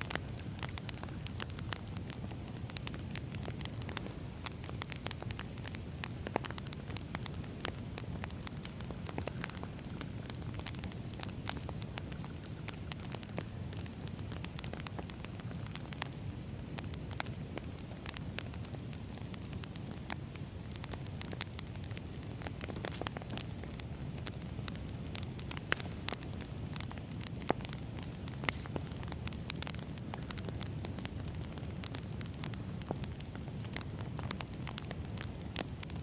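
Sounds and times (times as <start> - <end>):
firewood burning with crackles: 0.0 - 36.0.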